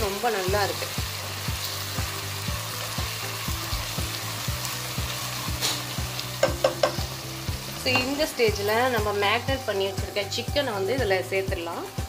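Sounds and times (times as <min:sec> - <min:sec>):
low background music: 0:00.0 - 0:12.0
onion sizzling in oil: 0:00.0 - 0:12.0.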